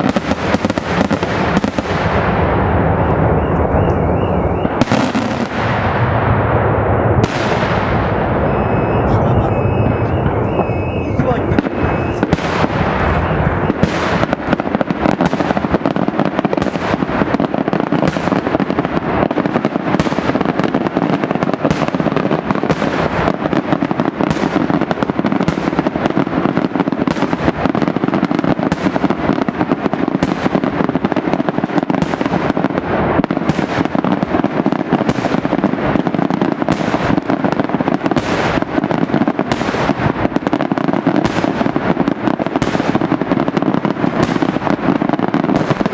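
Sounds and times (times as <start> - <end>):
fireworks crackling: 0.0 - 45.9
sharp fireworks bangs: 0.0 - 45.9.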